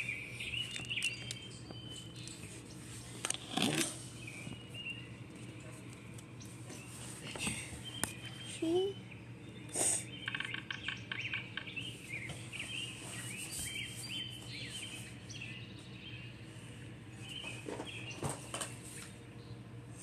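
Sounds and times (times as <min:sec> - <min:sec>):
small birds chirping: 0:00.0 - 0:19.8
steady low hum: 0:00.0 - 0:20.0.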